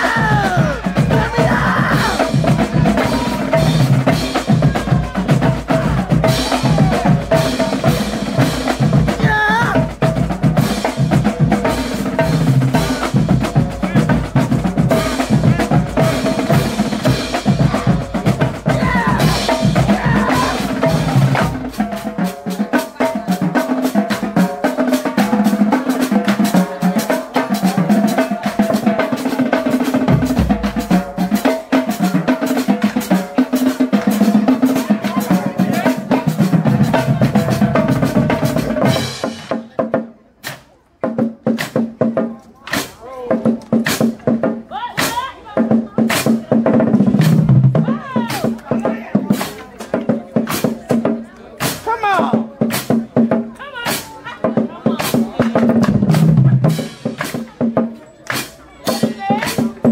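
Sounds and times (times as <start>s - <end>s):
bass drums: 0.0s - 59.9s
snare drums: 0.0s - 59.9s
tenor drums: 0.0s - 59.9s.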